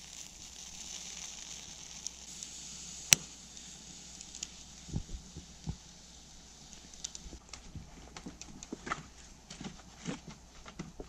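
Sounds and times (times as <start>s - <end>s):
faint hiss: 0.0s - 10.8s.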